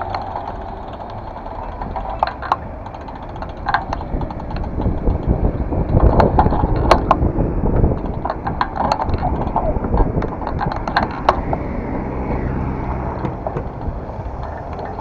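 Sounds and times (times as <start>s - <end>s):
bicycle rattling over asphalt: 0.0s - 15.0s
sharp clicks and knocks: 0.0s - 15.0s
traffic noise: 0.0s - 15.0s
wind: 0.0s - 15.0s.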